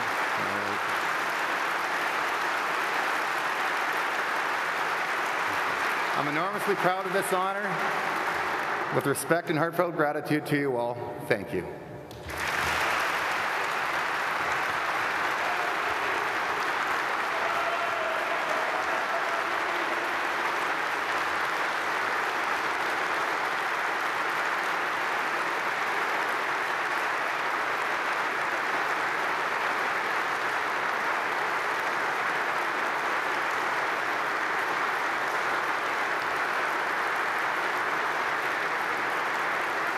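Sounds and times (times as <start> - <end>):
large audience applauding: 0.0 - 10.1, 12.2 - 39.9.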